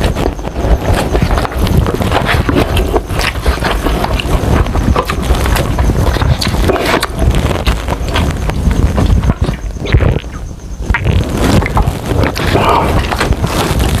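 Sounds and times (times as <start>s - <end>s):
chewing and eating: 0.0s - 14.0s.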